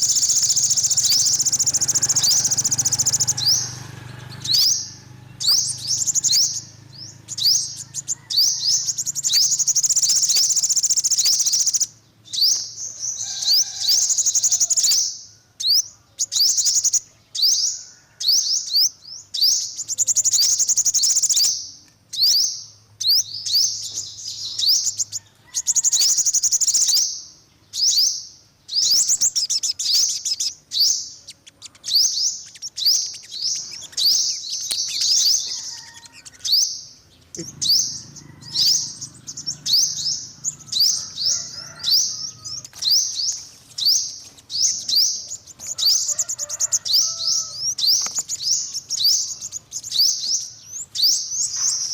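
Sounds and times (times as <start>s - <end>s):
bird twittering trills: 0.0s - 51.9s.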